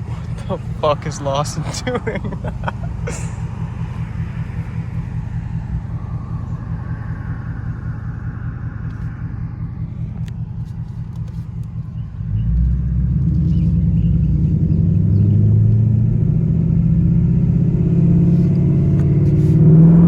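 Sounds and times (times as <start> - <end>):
car exhaust rumble: 0.0 - 20.0.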